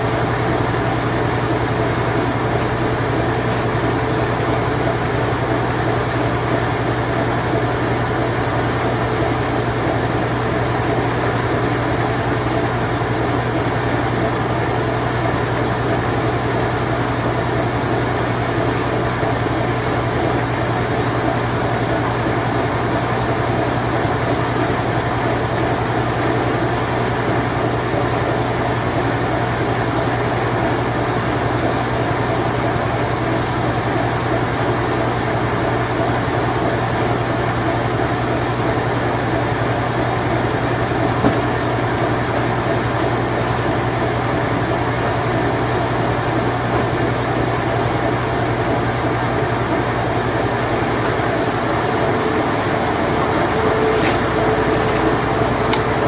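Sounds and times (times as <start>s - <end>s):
washing machine mechanical noise: 0.0s - 56.0s
washing machine motor hum: 0.0s - 56.0s.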